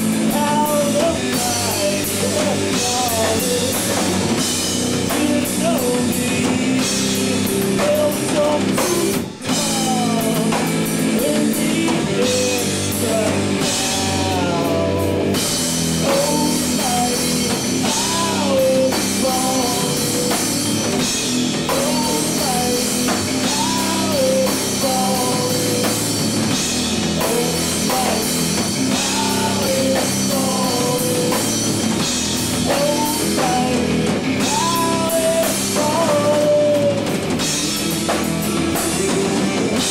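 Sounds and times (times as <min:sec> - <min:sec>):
rock song with singing: 0:00.0 - 0:39.9.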